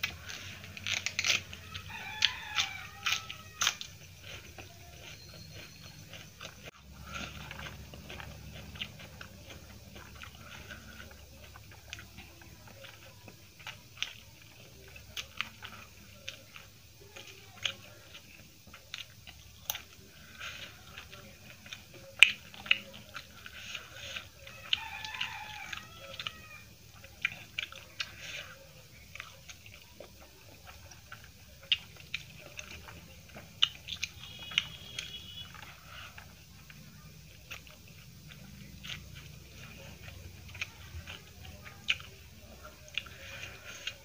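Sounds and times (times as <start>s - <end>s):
close chewing: 0.0s - 44.0s
crunchy bites: 0.0s - 44.0s.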